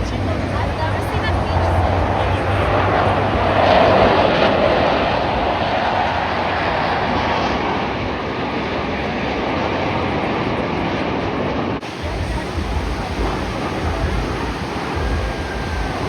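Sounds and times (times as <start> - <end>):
jet aircraft roaring past: 0.0 - 16.0.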